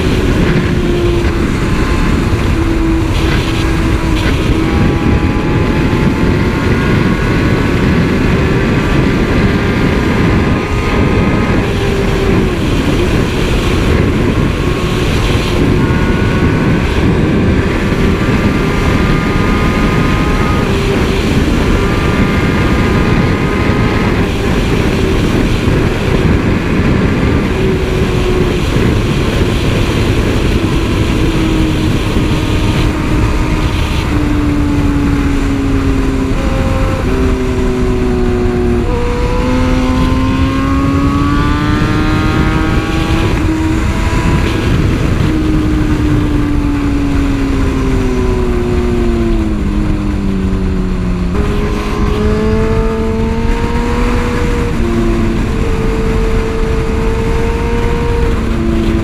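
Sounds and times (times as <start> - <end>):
motorcycle engine cruising: 0.0 - 59.0
wind noise rushing: 0.0 - 59.0.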